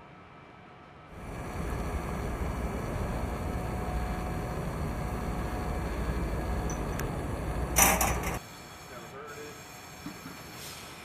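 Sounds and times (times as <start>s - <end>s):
workshop machinery rumble: 1.2s - 11.0s.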